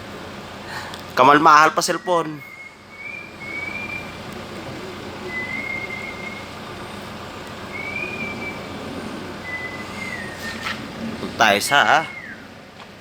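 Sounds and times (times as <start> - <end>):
backhoe engine running: 0.0 - 13.0
thin high whistling tone: 2.0 - 12.5.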